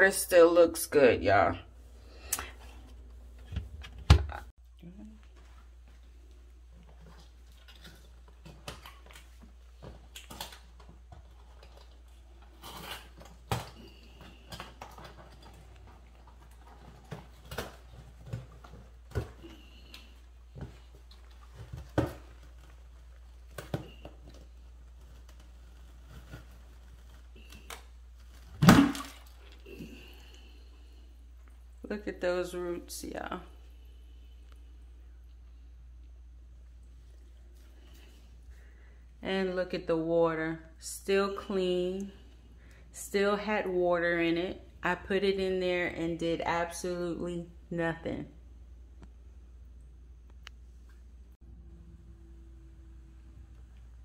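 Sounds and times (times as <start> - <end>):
faint low hum: 1.6 - 54.0.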